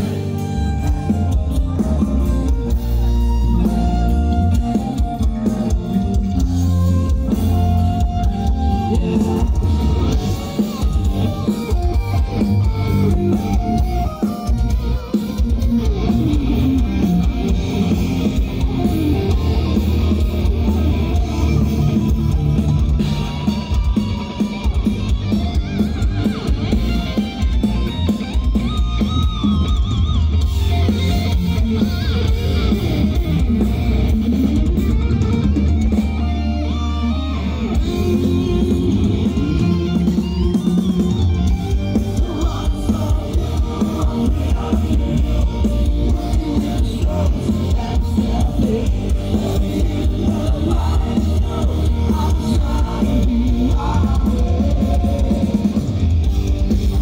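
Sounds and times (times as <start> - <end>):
live metal band playing: 0.0 - 57.0.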